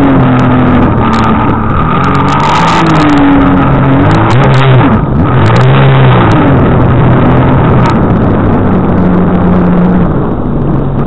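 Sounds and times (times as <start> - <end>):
jetski engine running hard: 0.0 - 11.0
wind: 0.0 - 11.0.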